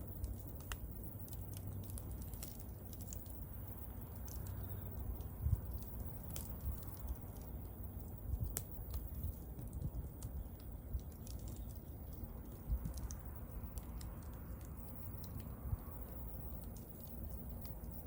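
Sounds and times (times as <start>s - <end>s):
bonfire crackling: 0.0s - 18.0s
low rumble of flames: 0.0s - 18.0s
small pops from fire: 0.0s - 18.0s.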